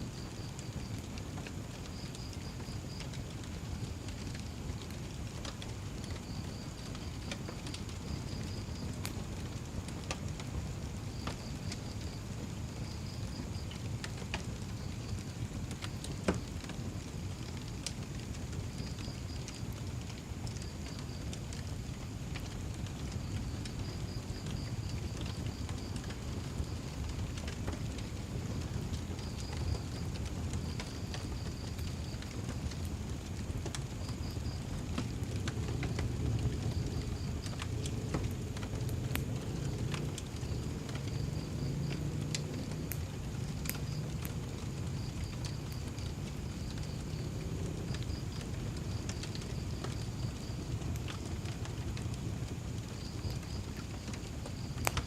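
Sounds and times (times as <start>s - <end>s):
low steady rumble: 0.0s - 55.0s
wood fire crackling: 0.0s - 55.0s.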